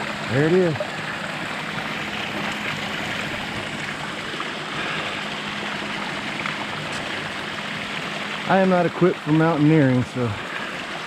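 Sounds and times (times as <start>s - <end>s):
creek running over rocks: 0.0s - 11.0s.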